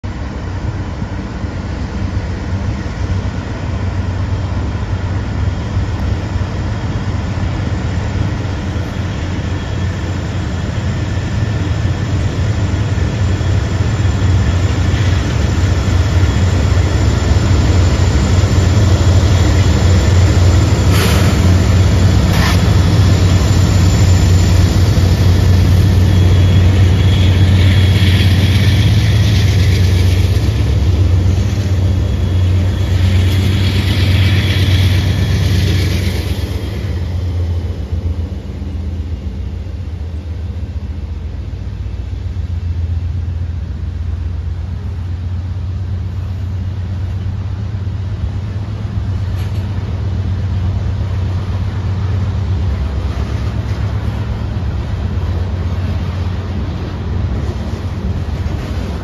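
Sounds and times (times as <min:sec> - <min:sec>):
diesel locomotive engines droning: 0:00.0 - 0:59.0.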